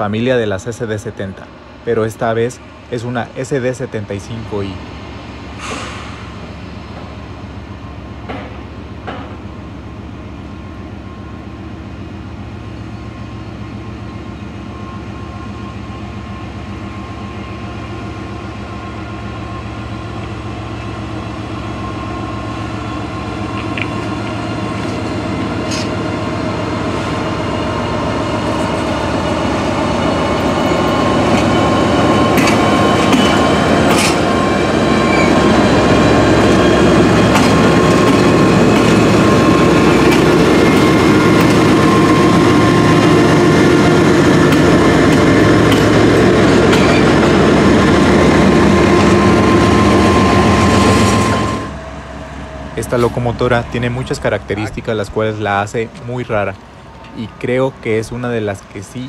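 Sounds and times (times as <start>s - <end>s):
diesel locomotive engine passing: 0.0s - 59.0s.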